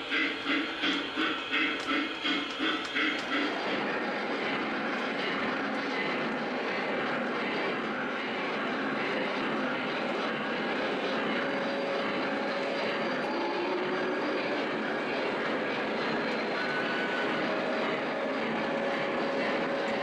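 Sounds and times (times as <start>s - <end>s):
model train rolling on track: 0.0s - 20.0s.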